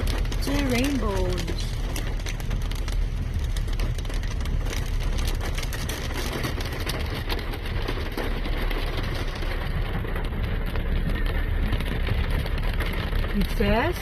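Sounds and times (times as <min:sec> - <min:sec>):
rain and hail hitting car: 0:00.0 - 0:14.0
road and engine rumble: 0:00.0 - 0:14.0.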